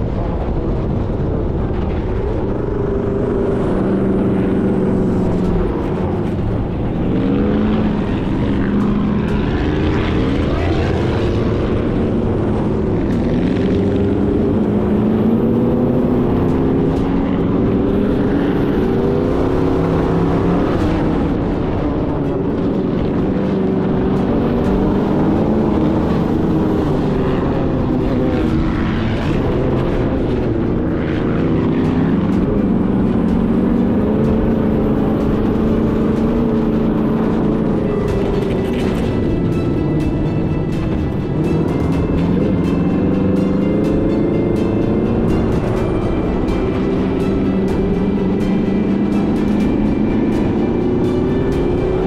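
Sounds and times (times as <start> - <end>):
sand rail engine running: 0.0 - 52.0.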